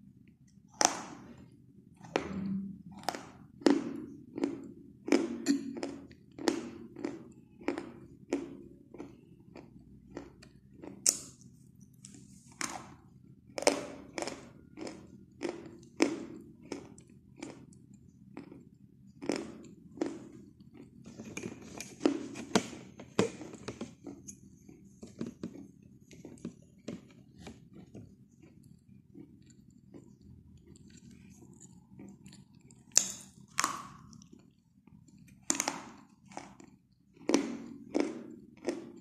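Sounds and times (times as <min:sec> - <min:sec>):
chalk being chewed crunching: 0:04.0 - 0:13.0, 0:13.7 - 0:22.2, 0:24.0 - 0:39.0.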